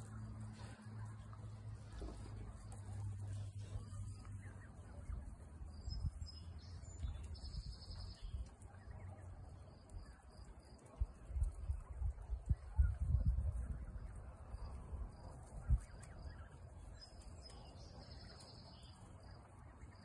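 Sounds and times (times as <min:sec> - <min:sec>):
low microphone rumble: 0:00.0 - 0:16.2.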